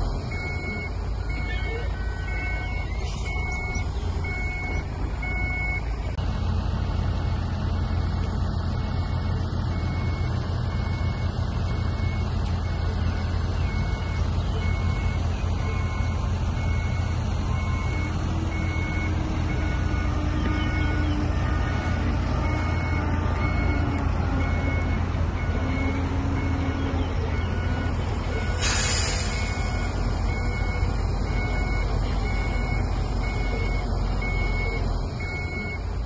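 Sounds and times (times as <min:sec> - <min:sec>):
heavy diesel engines rumbling: 0:00.0 - 0:36.0
reversing alarm beeps: 0:00.3 - 0:05.9, 0:09.7 - 0:35.9.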